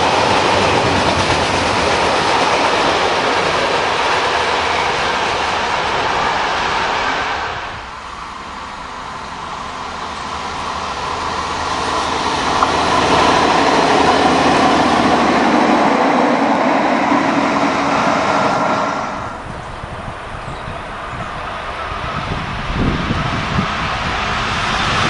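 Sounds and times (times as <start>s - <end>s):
rail vehicle passing on track: 0.0s - 25.0s.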